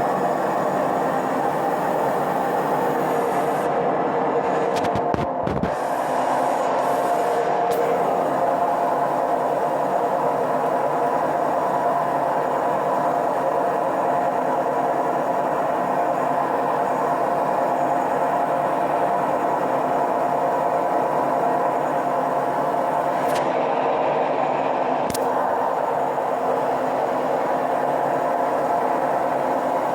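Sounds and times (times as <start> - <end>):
washing machine spinning: 0.0 - 29.9.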